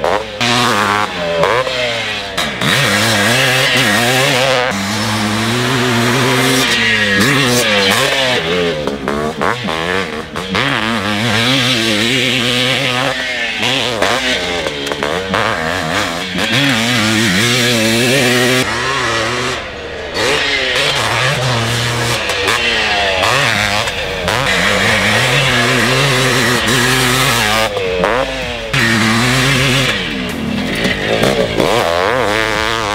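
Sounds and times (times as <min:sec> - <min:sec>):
two-stroke motorcycle engine revving: 0:00.0 - 0:32.9.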